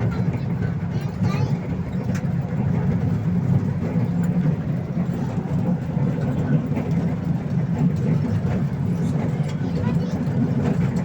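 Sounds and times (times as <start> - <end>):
toy train engine and wheels rumbling: 0.0 - 11.0.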